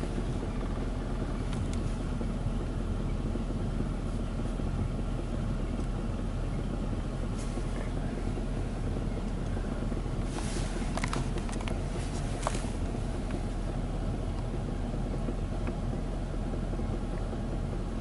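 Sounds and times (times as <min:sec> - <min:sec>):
car wash machine running: 0:00.0 - 0:18.0.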